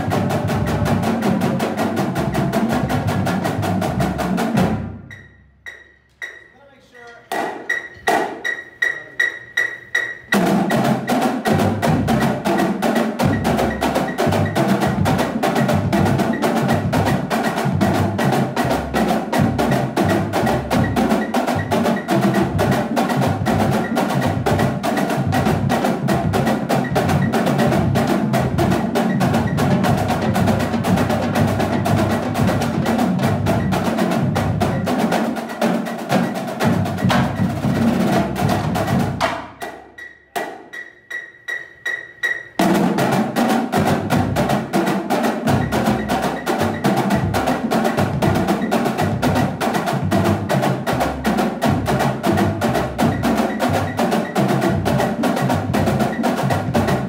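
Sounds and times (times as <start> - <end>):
marching snare drums playing: 0.0 - 57.0
steady beeping: 5.0 - 42.7, 43.8 - 57.0.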